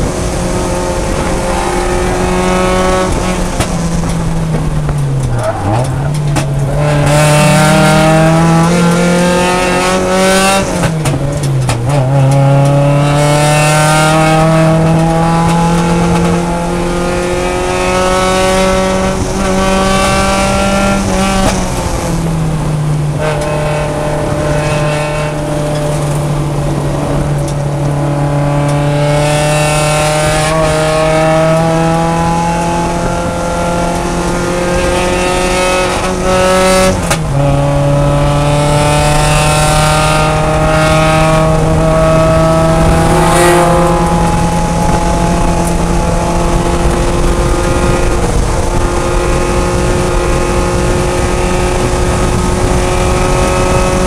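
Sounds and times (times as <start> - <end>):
engine gear shifts: 0.0 - 54.0
race car engine under load: 0.0 - 54.0.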